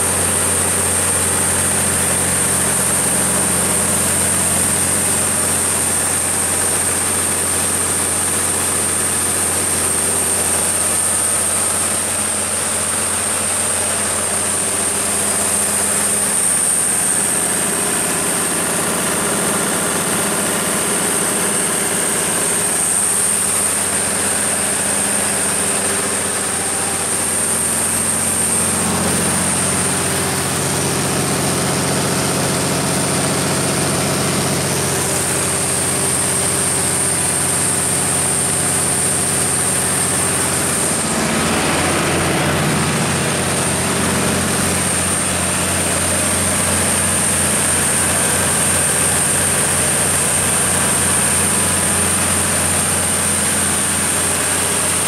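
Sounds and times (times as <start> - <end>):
diesel generator running: 0.0 - 55.0
high-pitched whine: 0.0 - 55.0.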